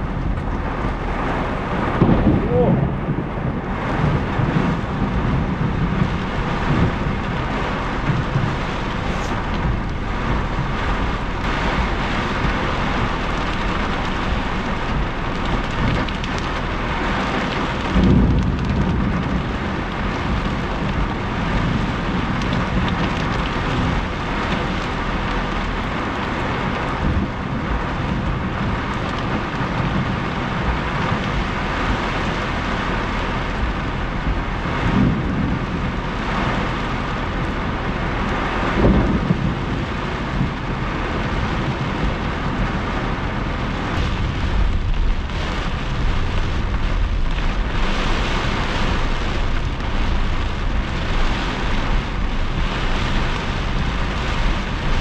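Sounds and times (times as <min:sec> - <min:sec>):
rain drumming on car roof: 0:00.0 - 0:55.0
thunder rumble: 0:00.0 - 0:55.0.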